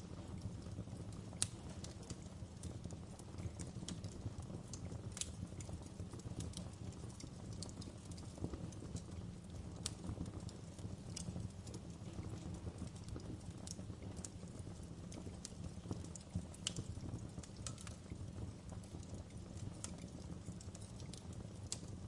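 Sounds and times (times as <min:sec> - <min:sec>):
low rumble of burning: 0:00.0 - 0:22.0
wood fire crackling and popping: 0:00.0 - 0:22.0.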